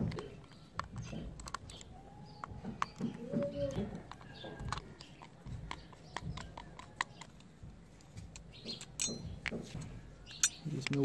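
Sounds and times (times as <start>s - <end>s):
small metallic clicks and taps: 0.0s - 11.0s.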